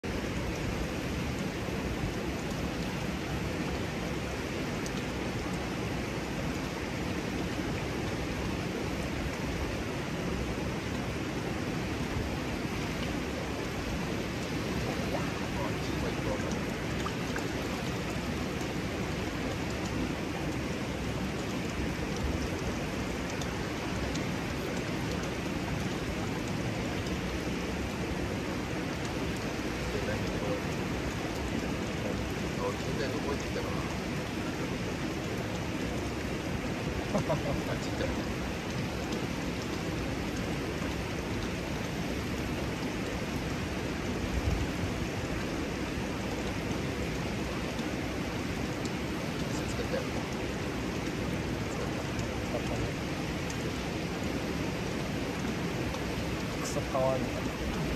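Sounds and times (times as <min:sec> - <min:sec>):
water rushing over stone wall: 0:00.0 - 0:57.9.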